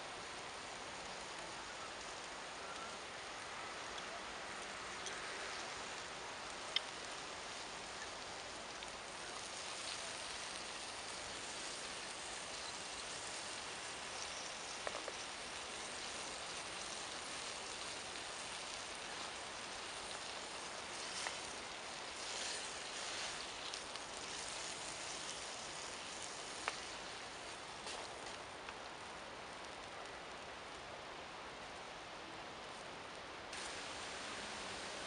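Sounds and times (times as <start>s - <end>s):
food sizzling in a wok: 0.0s - 29.8s, 33.5s - 35.0s.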